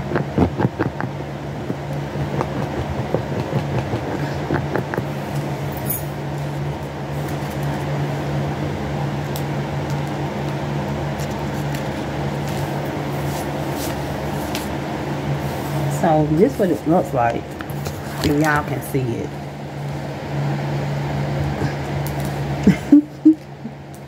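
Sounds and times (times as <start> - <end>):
electric fan humming: 0.0 - 24.0.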